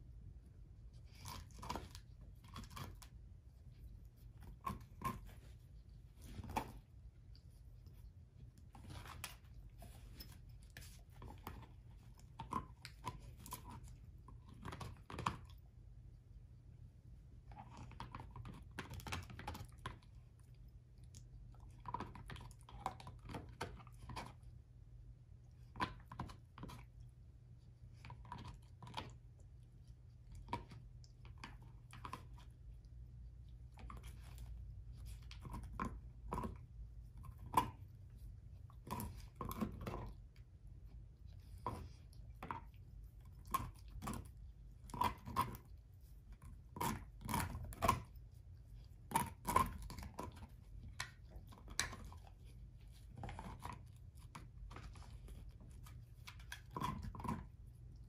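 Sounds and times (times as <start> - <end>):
dog chewing and crunching bone: 0.2 - 58.0.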